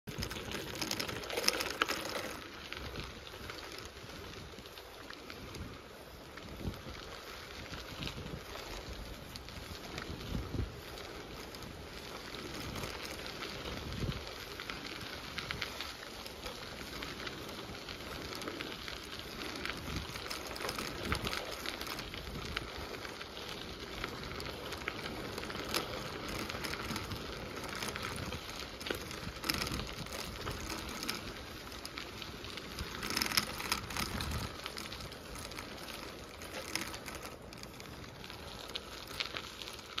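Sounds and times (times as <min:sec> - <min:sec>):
footsteps on gravel path: 0:00.1 - 0:40.0.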